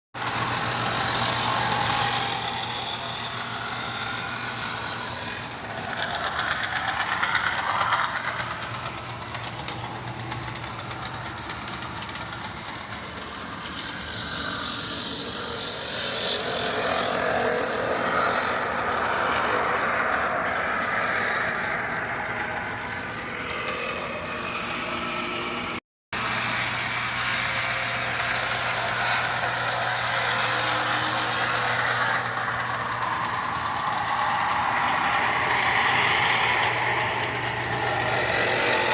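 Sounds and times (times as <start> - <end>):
electric motor hum: 0.2 - 38.9
wheels clattering on rails: 0.2 - 38.9.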